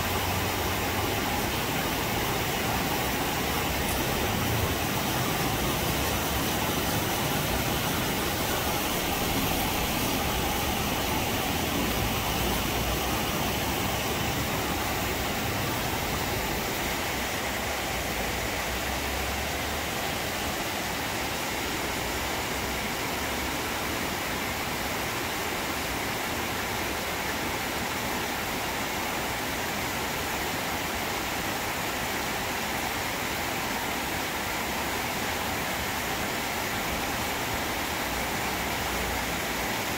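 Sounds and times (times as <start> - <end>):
rain on trees and metal roofs: 0.0 - 39.9.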